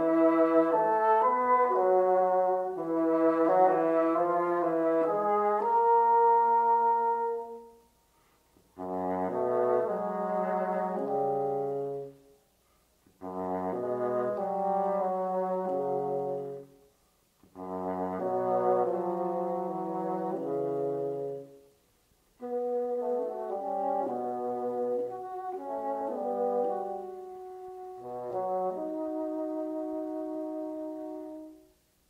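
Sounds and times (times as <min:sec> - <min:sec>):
bassoon playing low notes: 0:00.0 - 0:07.9, 0:08.8 - 0:12.2, 0:13.1 - 0:16.8, 0:17.4 - 0:21.6, 0:22.4 - 0:31.7.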